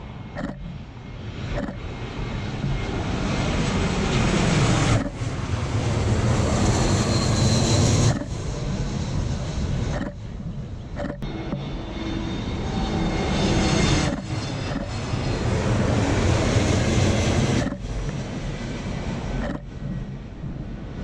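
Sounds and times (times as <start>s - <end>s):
faint high whine: 0.0s - 21.0s
jet airliner engines rumbling: 0.0s - 21.0s.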